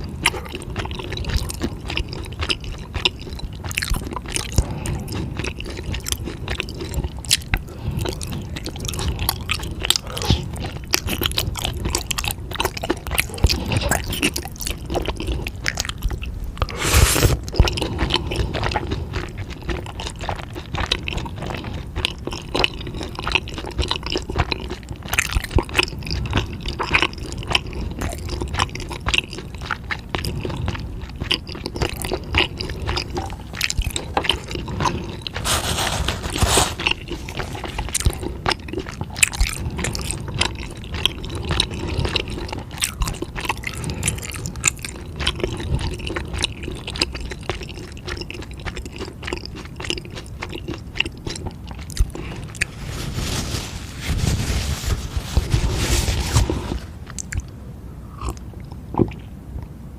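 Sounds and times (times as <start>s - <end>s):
chewing crunchy food: 0.0s - 59.3s.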